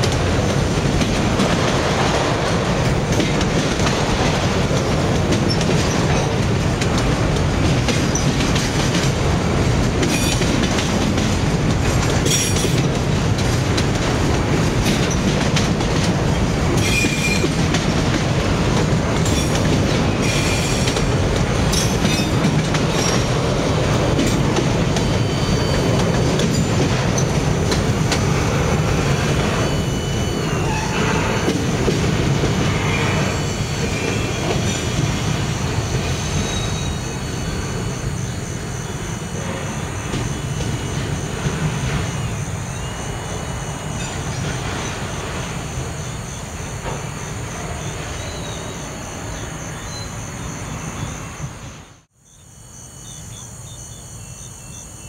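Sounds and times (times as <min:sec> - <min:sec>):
freight train rolling on rails: 0:00.0 - 0:52.2
crickets chirring: 0:00.0 - 0:55.0
train wheels squealing: 0:02.0 - 0:13.7, 0:14.7 - 0:55.0.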